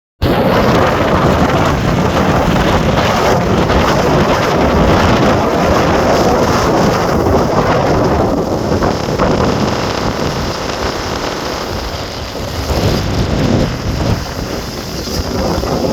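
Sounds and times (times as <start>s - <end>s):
wind buffeting microphone: 0.2s - 15.9s.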